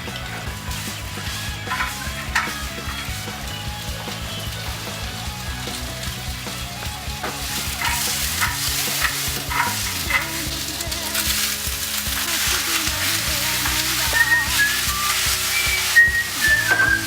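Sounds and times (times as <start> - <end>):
background music with steady beat: 0.0 - 17.0
food sizzling in a pan: 0.0 - 17.0.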